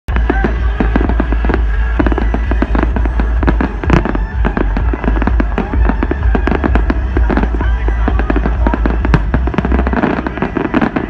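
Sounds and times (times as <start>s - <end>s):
fireworks bangs and crackles: 0.1s - 11.0s
steady low rumble: 0.1s - 11.0s.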